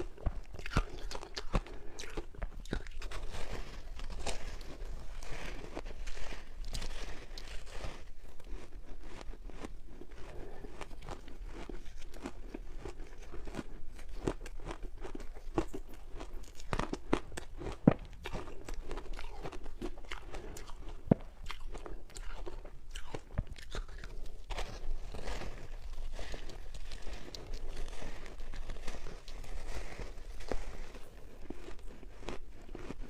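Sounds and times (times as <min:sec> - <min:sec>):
ice being crunched and chewed: 0:00.0 - 0:33.0.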